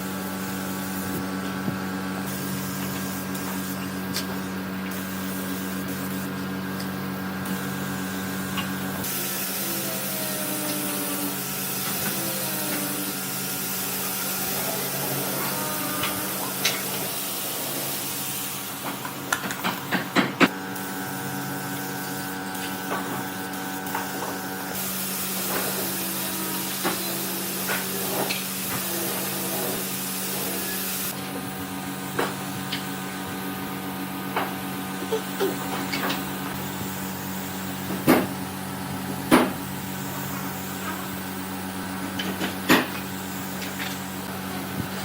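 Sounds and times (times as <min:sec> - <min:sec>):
motor hum: 0:00.0 - 0:45.0.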